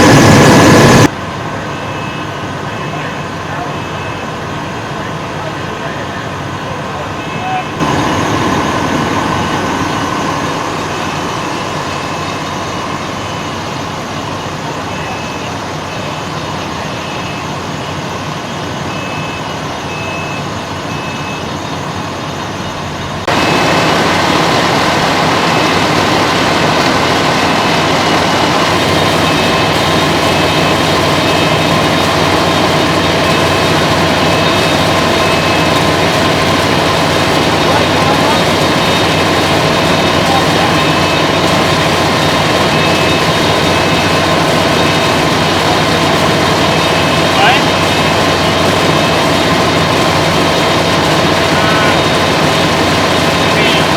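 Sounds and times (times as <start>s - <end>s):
fire truck engine running: 0.0s - 53.9s.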